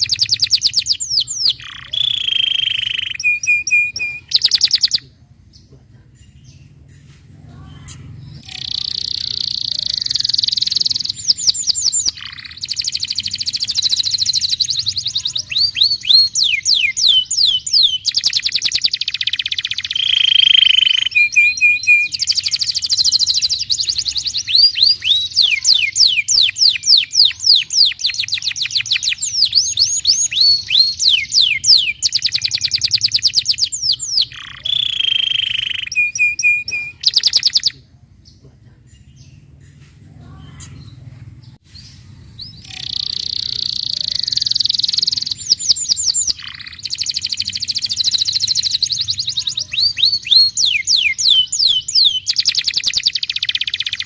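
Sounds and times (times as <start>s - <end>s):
canary singing trills: 0.0s - 6.9s, 7.6s - 54.0s.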